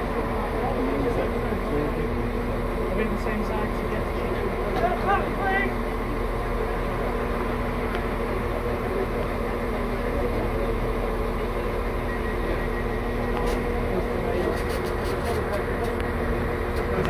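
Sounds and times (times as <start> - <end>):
diesel train engine idling: 0.0 - 17.0.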